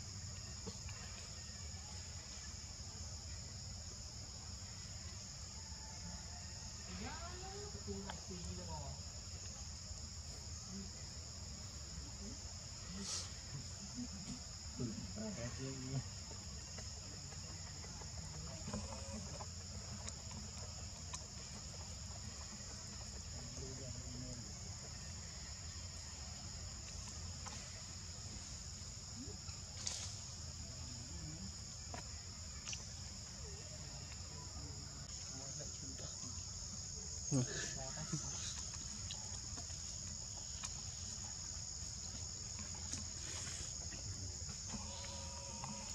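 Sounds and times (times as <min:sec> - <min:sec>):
insect chorus drone: 0:00.0 - 0:45.9.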